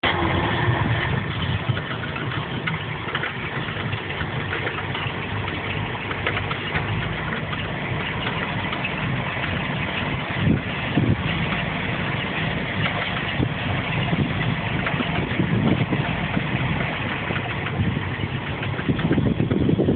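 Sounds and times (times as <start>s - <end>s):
boat engine idling: 0.0s - 19.9s
faint irregular ticking: 1.2s - 19.9s.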